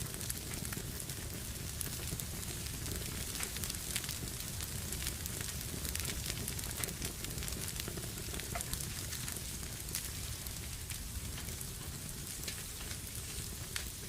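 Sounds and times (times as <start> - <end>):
low rumble of flames: 0.0 - 14.0
wood fire crackling: 0.0 - 14.0.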